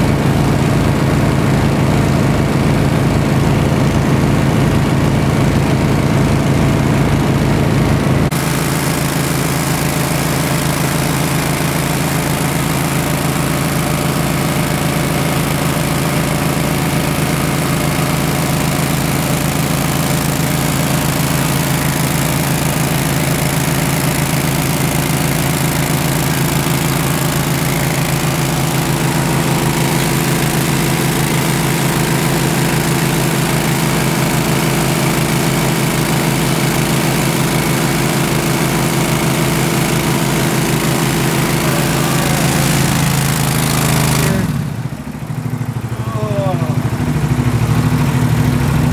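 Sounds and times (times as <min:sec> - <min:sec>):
dredge engine running: 0:00.0 - 0:48.9.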